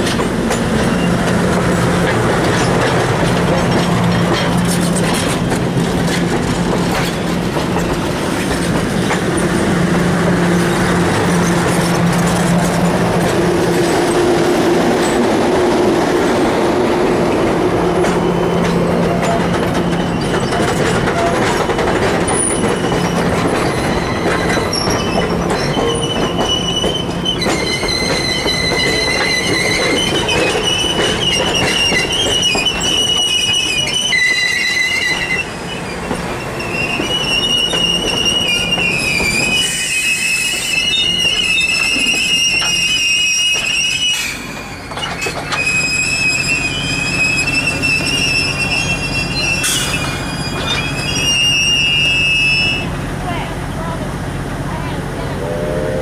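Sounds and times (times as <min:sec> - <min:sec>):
high squeals from train wheels: 0:00.0 - 0:15.2, 0:17.2 - 0:53.0
steel wheels rumbling on rails: 0:00.0 - 0:56.0.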